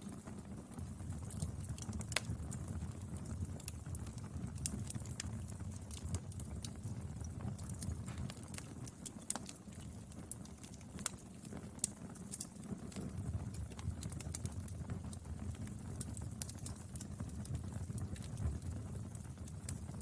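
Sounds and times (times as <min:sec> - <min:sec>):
fire crackling and popping: 0:00.0 - 0:20.0
wood fire burning: 0:00.0 - 0:20.0.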